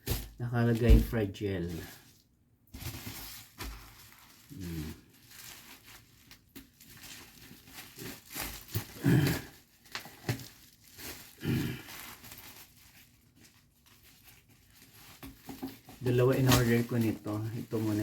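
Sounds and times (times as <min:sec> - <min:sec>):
plastic packaging crinkling and tearing: 0:00.0 - 0:18.0.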